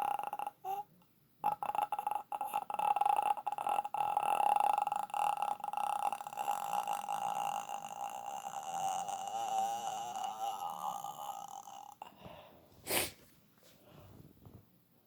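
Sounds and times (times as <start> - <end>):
person making croaking throat rattle: 0.0 - 12.2.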